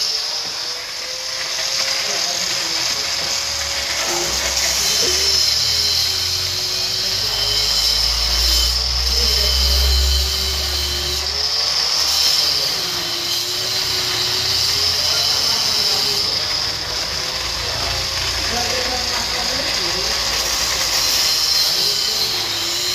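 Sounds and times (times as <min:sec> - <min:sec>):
power tool cutting metal: 0:00.0 - 0:22.9.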